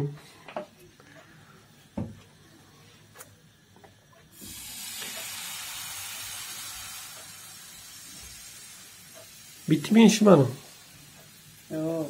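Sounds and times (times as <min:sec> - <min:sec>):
batter sizzling on a hot pan: 0:02.0 - 0:12.0.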